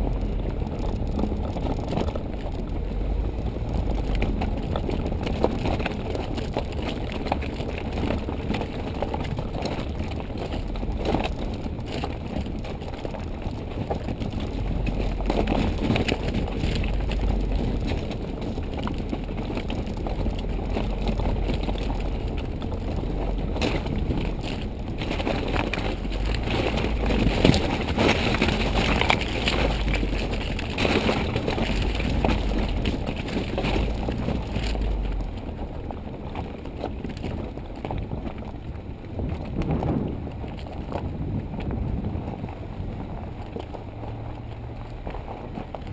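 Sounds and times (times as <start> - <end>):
stones rattling and crunching: 0.0 - 45.9
vehicle rumbling over gravel: 0.0 - 45.9.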